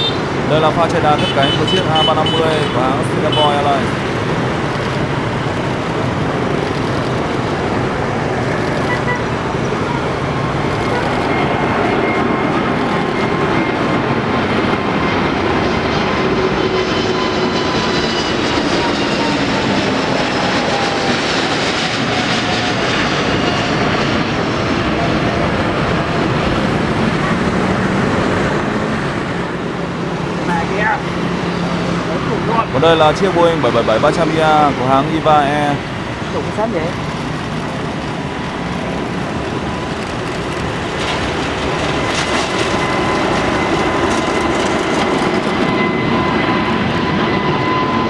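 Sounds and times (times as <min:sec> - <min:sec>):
jet engines at take-off thrust: 0:00.0 - 0:48.0.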